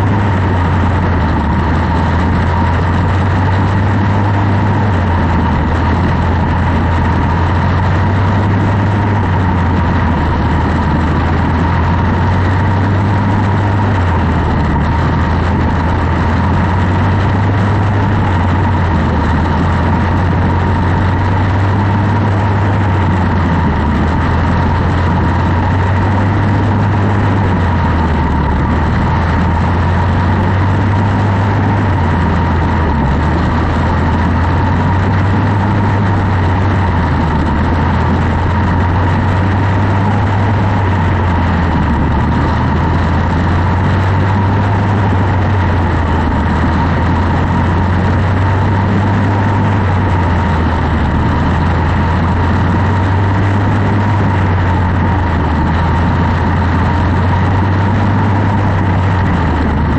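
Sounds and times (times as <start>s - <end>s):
small racing engine running: 0.0s - 59.9s.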